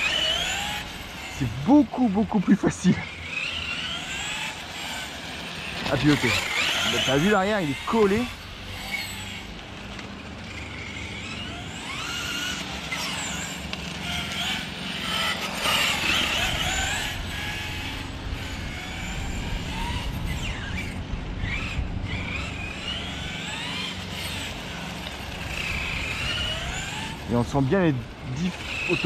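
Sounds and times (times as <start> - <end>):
rc car electric motor whine: 0.0 - 29.0.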